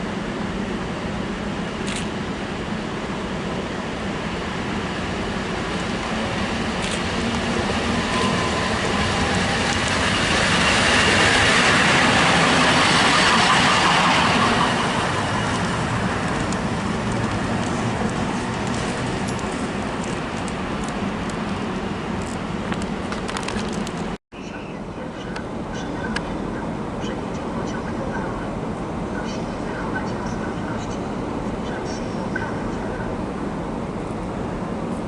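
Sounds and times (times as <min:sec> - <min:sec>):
electric locomotive rolling past: 0:00.0 - 0:34.9.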